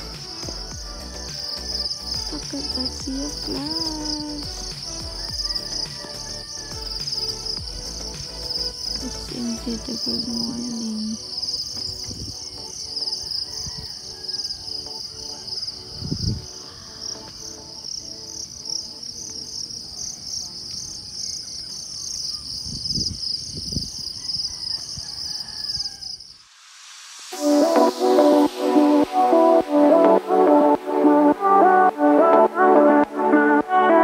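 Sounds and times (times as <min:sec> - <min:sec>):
night insects chorus: 0:00.0 - 0:29.5.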